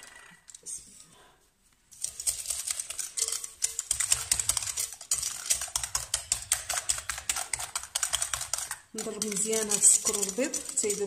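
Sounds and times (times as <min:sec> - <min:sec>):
whisk clicking against glass bowl: 0:02.0 - 0:11.0.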